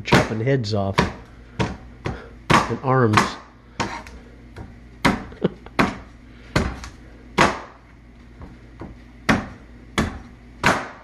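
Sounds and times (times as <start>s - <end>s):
knife chopping coconut husk: 0.0s - 7.8s, 8.8s - 11.0s.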